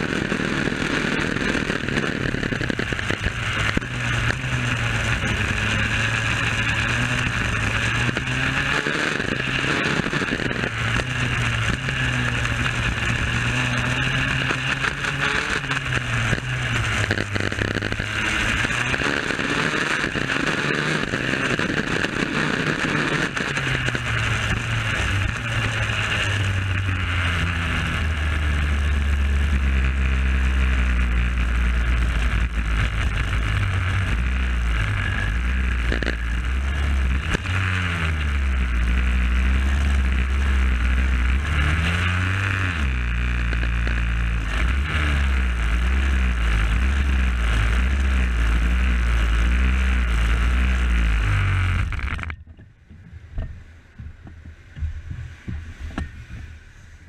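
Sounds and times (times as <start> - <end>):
kart engine revving: 0.0 - 52.4.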